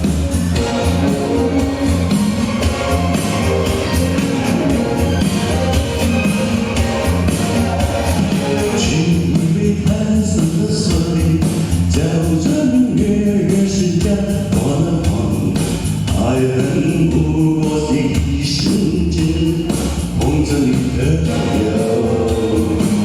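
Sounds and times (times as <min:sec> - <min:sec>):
pop song with vocals: 0:00.0 - 0:23.0.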